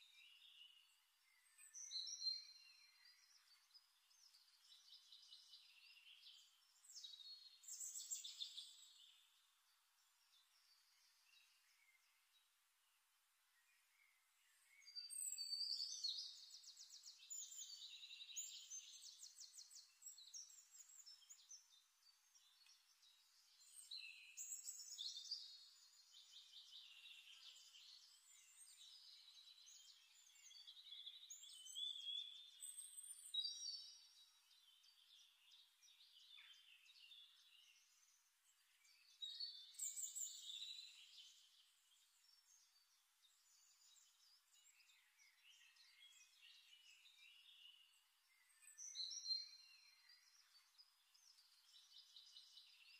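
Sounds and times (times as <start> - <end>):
faint songbird trills: 0.0 - 12.5, 13.5 - 52.9.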